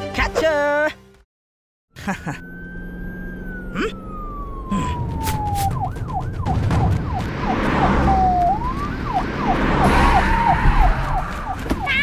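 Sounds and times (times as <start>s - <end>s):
siren wailing and yelping: 1.9s - 12.0s.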